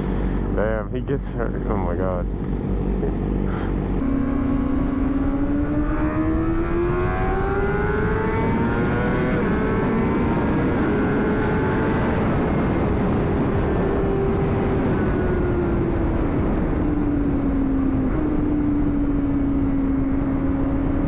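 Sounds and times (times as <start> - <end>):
heavy wind rush: 0.0 - 21.0
motorcycle engine accelerating hard: 0.0 - 21.0.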